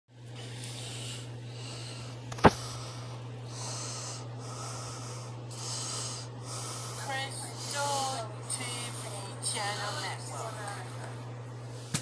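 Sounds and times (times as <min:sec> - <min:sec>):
low electrical hum: 0:00.1 - 0:12.0.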